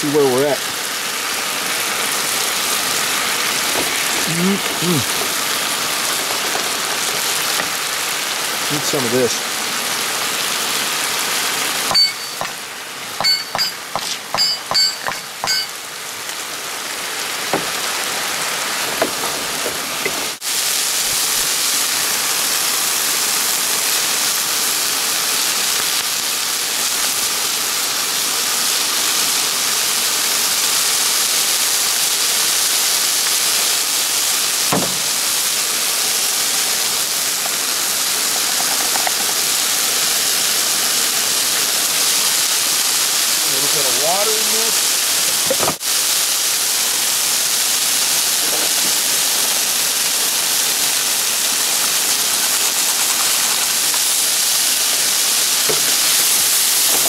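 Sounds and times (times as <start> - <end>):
meat sizzling in a skillet: 0.0 - 57.0.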